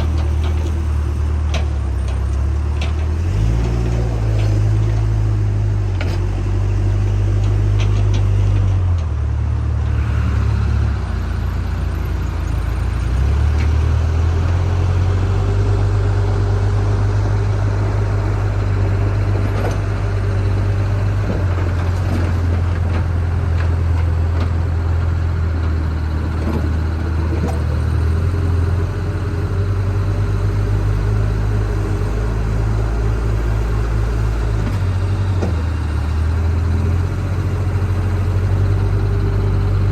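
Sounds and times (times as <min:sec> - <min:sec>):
diesel engine under varying load: 0:00.0 - 0:39.9.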